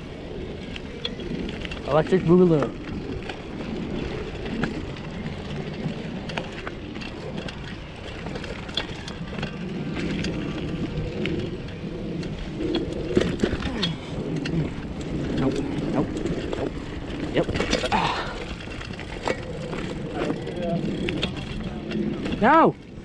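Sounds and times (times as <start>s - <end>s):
bicycle tyres rolling on dirt: 0.0s - 23.0s
bike clicks and rattles: 0.0s - 23.0s.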